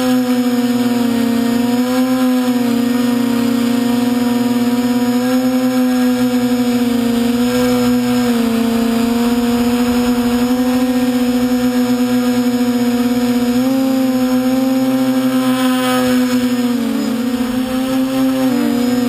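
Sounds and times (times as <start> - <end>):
model airplane motor drone: 0.0 - 19.0.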